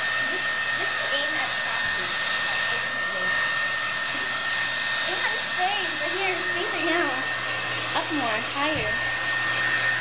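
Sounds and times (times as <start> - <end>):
hair dryer blowing with whine: 0.0 - 10.0.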